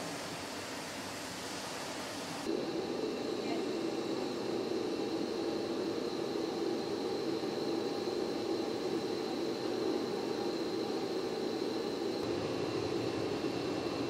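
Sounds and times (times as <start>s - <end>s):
machinery hum and whir: 0.0s - 14.0s
high steady whine: 2.4s - 14.0s.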